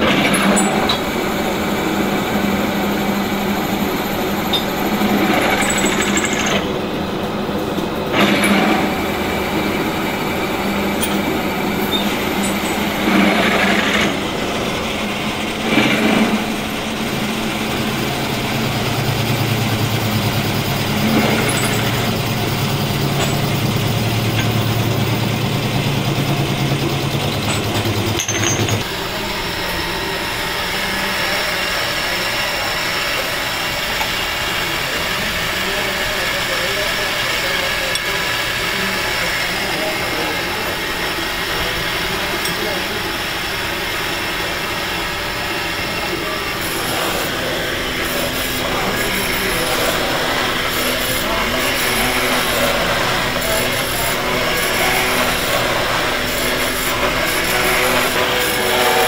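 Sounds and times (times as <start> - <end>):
deep machine hum: 0.0 - 59.0
metalworking machinery running: 0.0 - 59.0.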